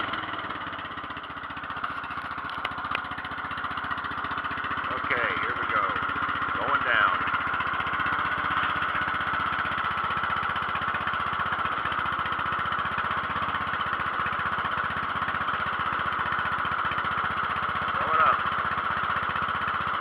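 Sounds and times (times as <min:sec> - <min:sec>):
garden tractor engine idling: 0:00.0 - 0:20.0.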